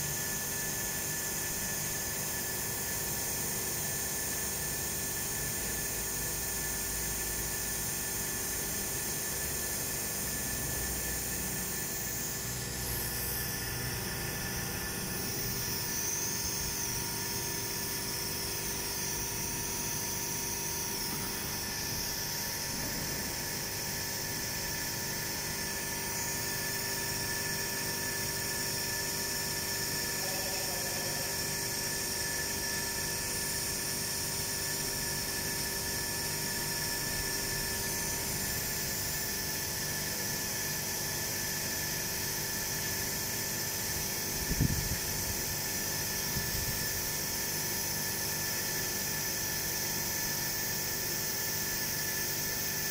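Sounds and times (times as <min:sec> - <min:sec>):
high-pitched machine whine: 0:00.0 - 0:52.9.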